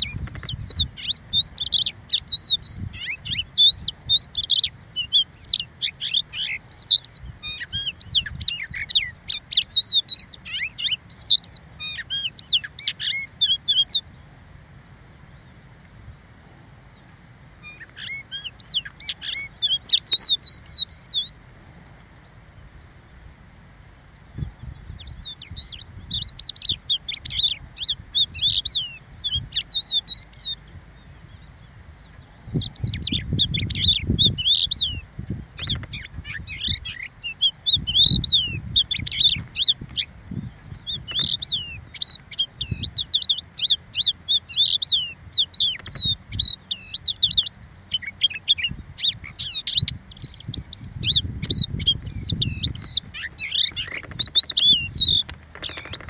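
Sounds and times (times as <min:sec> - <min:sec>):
lark singing: 0:00.0 - 0:14.3, 0:16.8 - 0:21.8, 0:24.1 - 0:56.0.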